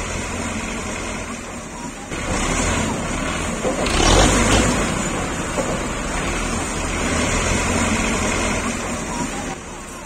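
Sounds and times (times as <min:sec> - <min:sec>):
diesel tractor engine straining: 0:00.0 - 0:10.0.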